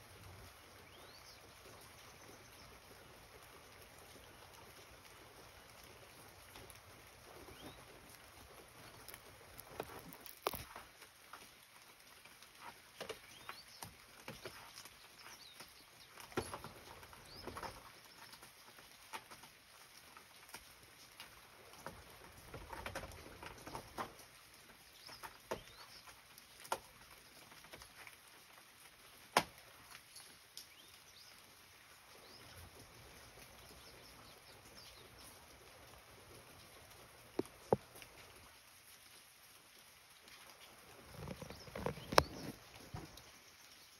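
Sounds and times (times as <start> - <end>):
small clicks and rustles: 1.1 - 43.9.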